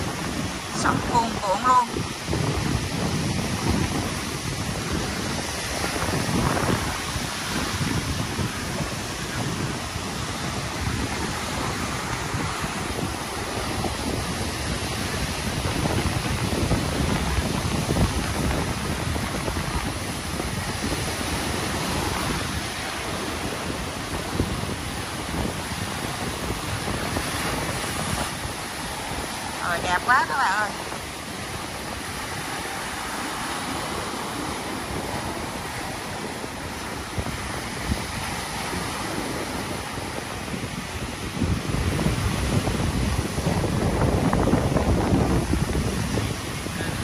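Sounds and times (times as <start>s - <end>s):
surf breaking on a beach: 0.0s - 47.0s.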